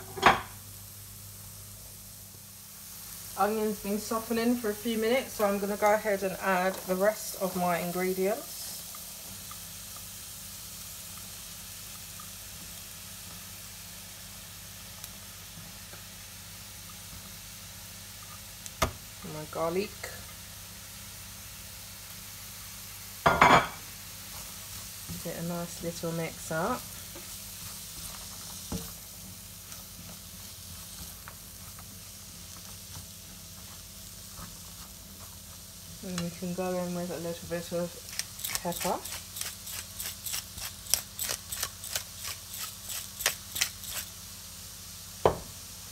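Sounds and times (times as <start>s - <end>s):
vegetables sizzling in a pan: 0.0s - 45.9s.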